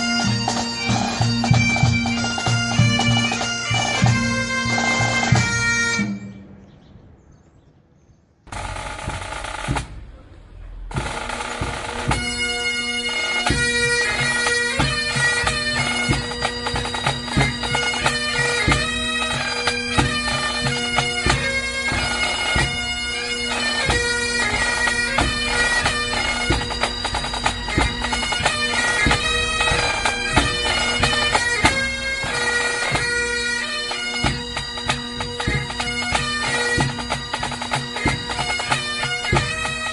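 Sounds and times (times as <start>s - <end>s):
drum beats: 0.0s - 5.7s, 8.5s - 39.9s
bagpipes playing a tune: 0.0s - 6.4s, 8.5s - 9.9s, 10.9s - 39.9s.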